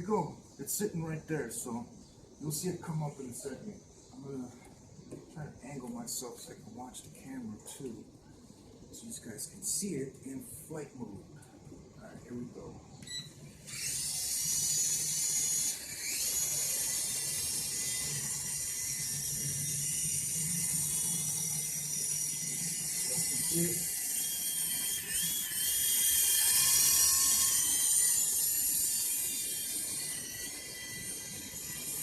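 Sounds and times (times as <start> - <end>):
toy helicopter motors whining: 0.0 - 8.1, 8.9 - 32.0.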